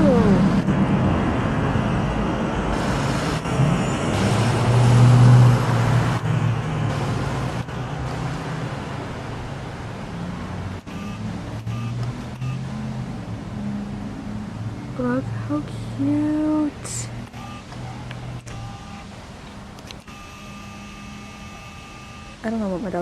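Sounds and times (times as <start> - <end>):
motor vehicle passing: 0.0 - 23.0.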